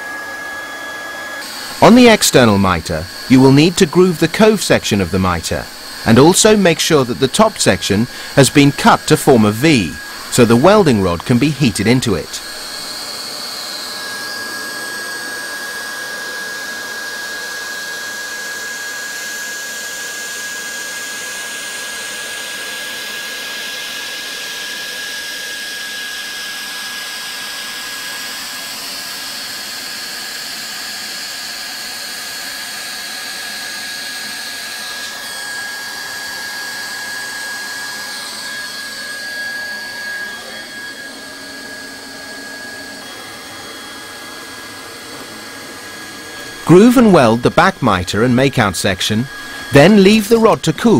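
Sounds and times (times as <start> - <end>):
hot-air welding gun blowing: 1.0 - 50.9.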